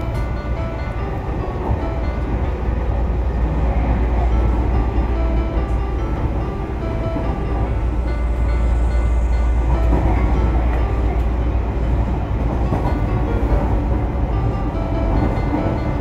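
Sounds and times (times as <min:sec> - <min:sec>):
faint steady tones: 0:00.0 - 0:16.0
train wheels rumbling on rail: 0:00.0 - 0:16.0.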